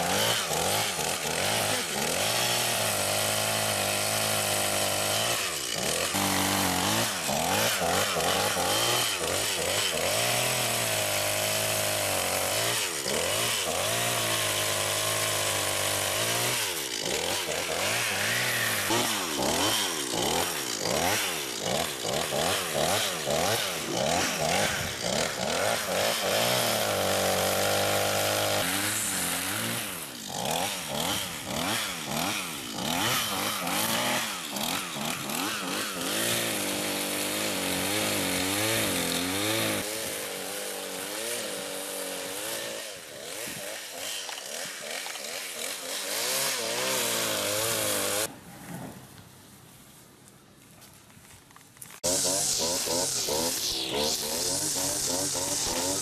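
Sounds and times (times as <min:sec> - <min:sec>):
chainsaw revving: 0:00.0 - 0:48.3, 0:51.9 - 0:56.0.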